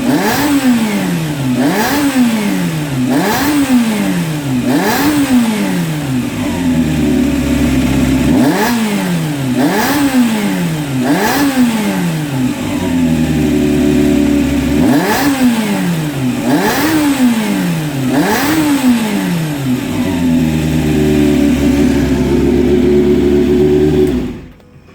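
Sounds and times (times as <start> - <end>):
motorcycle engine idling and revving: 0.0 - 24.7.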